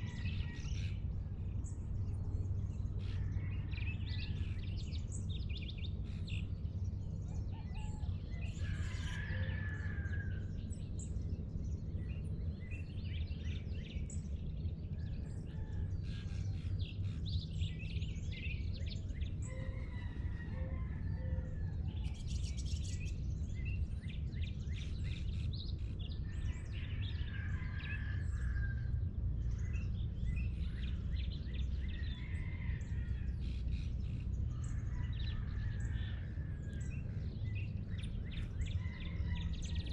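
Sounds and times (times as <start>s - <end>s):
birds calling and chirping: 0.0s - 39.9s
steady low rumble: 0.0s - 39.9s.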